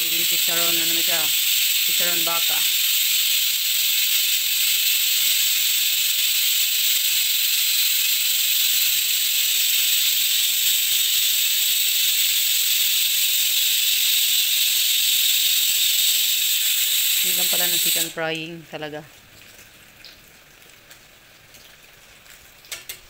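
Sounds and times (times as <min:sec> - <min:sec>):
deep-frying in hot oil sizzle: 0:00.0 - 0:23.0.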